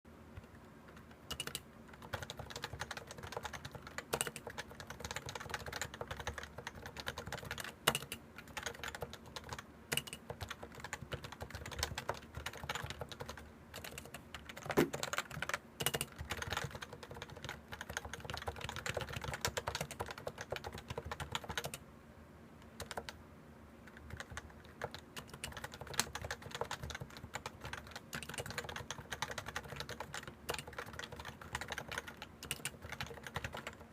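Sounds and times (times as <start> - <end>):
typing on a keyboard: 0.4 - 21.8, 22.7 - 23.2, 23.9 - 33.9.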